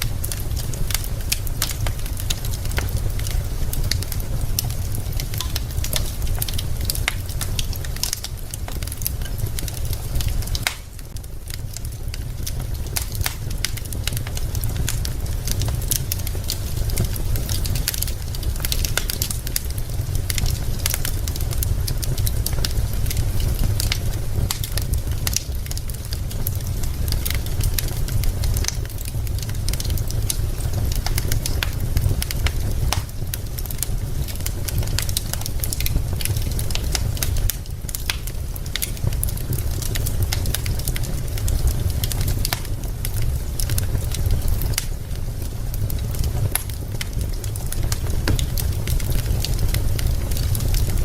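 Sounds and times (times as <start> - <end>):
low fire rumble: 0.0 - 51.0
wood fire crackling and popping: 0.0 - 51.0.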